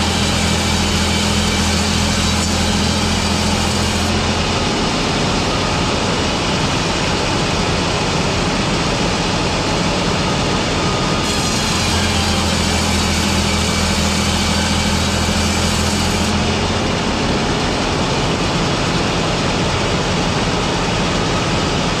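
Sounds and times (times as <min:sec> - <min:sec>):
machinery running: 0:00.0 - 0:22.0.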